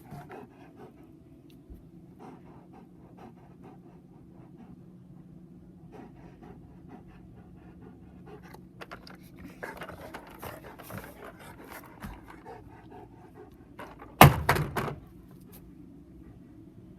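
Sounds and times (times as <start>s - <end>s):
dog panting: 0.0s - 14.3s.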